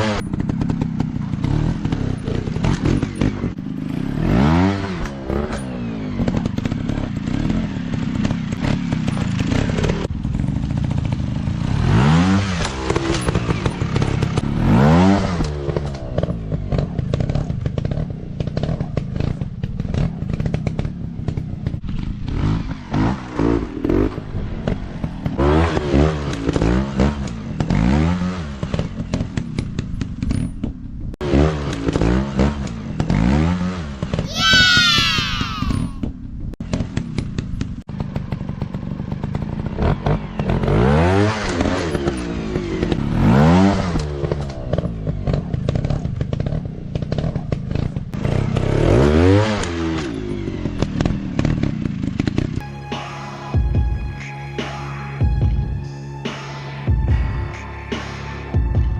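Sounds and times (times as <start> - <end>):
dirt bike engine revving: 0.0 - 29.6, 31.2 - 36.0, 36.7 - 52.6.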